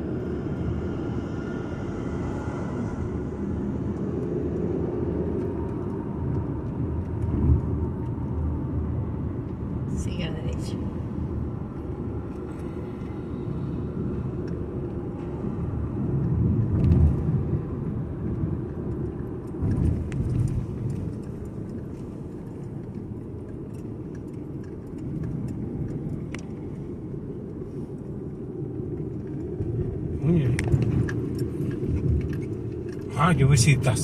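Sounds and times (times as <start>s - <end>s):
car road rumble from inside: 0.0s - 34.0s.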